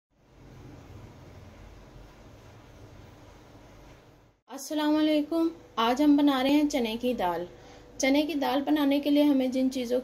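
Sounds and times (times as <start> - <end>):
faint background hiss: 0.2 - 10.0.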